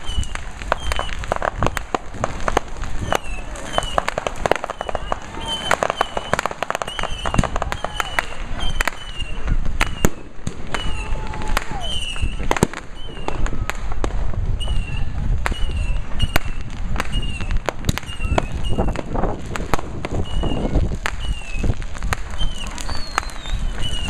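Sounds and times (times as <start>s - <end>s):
firecrackers cracking: 0.0s - 24.0s.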